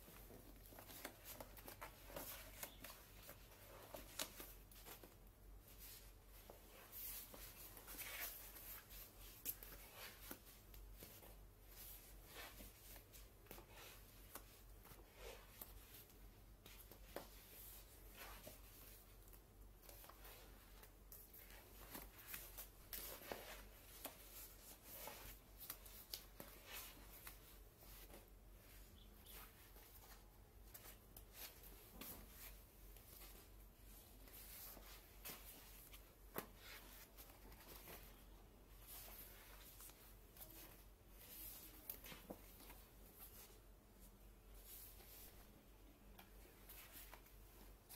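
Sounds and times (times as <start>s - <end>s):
wallpaper pages rustling: 0.0s - 47.9s.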